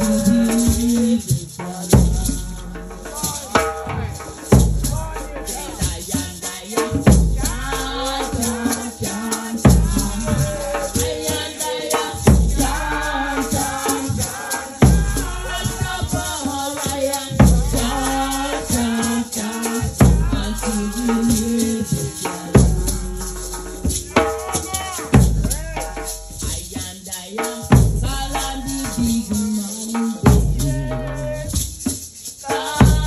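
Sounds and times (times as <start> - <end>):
people chanting: 0.0 - 26.6, 27.4 - 33.0
hand-shaken rattle: 0.0 - 33.0.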